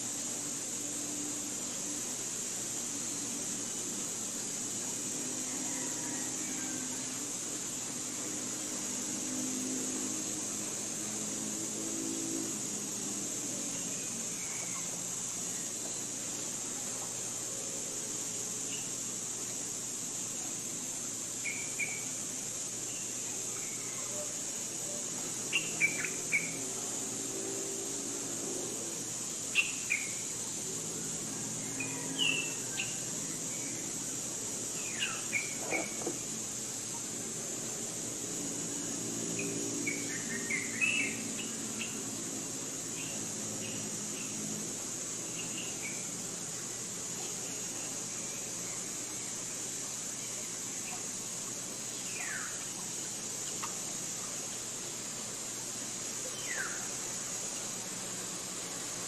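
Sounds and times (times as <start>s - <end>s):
high-pitched insect drone: 0.0s - 59.0s
steady high hiss: 0.0s - 59.0s.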